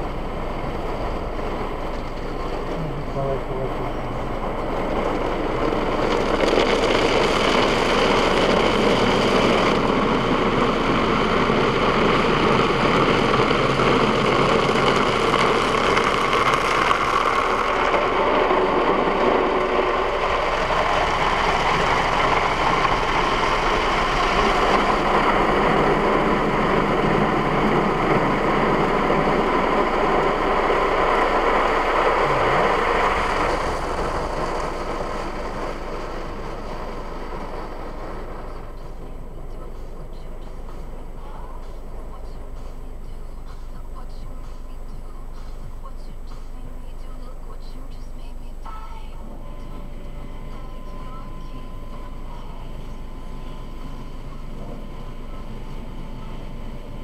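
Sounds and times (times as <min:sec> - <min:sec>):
car wash brushes and water spray: 0:00.0 - 0:45.8
low hum of wash machinery: 0:00.0 - 0:57.0.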